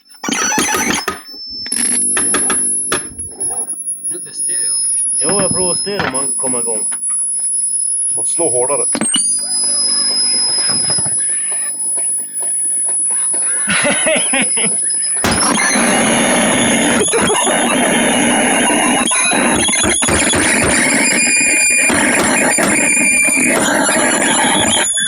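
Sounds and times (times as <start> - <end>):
distorted noise from stereo speaker: 0.0 - 25.0
high wavering squeals: 0.0 - 25.0.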